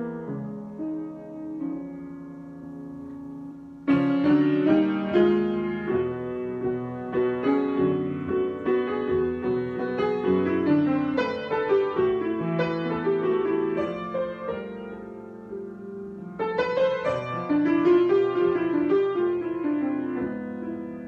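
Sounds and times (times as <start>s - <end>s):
solo piano: 0.0s - 21.0s.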